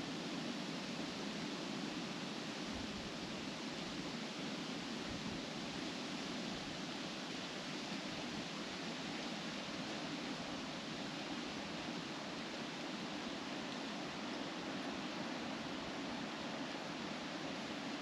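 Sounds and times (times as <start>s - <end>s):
wind rustling leaves in trees: 0.0s - 18.0s.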